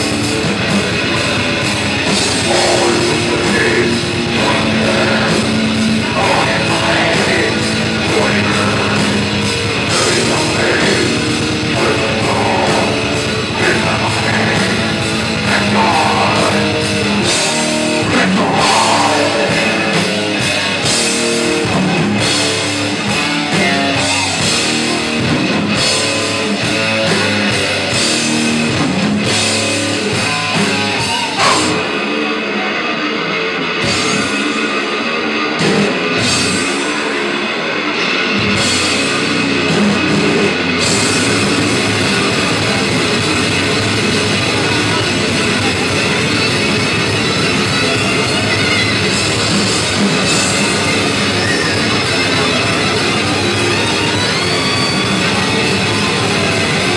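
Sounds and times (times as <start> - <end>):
drum kit: 0.0 - 32.4, 33.6 - 56.9
distorted electric guitars: 0.0 - 56.9.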